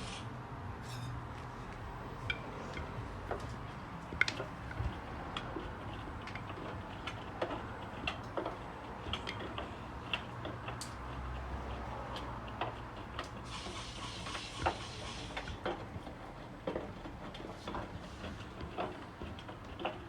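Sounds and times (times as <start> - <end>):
drain pump humming: 1.9 - 20.0.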